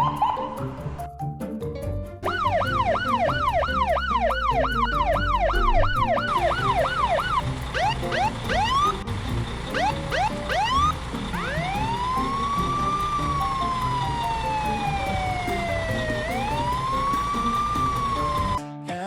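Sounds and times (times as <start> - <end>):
toy police siren: 0.0 - 0.6, 2.3 - 9.0, 9.8 - 18.6
simple electronic tune: 2.2 - 9.1, 9.7 - 18.6.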